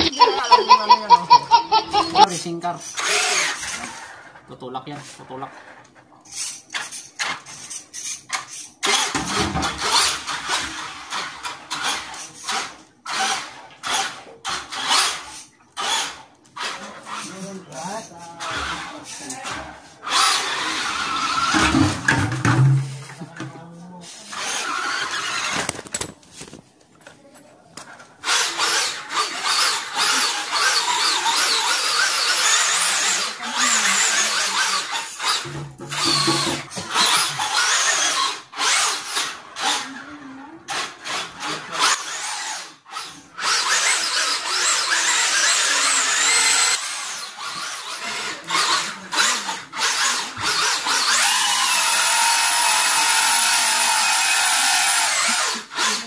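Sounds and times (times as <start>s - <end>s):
rc car motor whining: 0.0s - 22.0s, 24.0s - 26.1s, 27.8s - 56.0s.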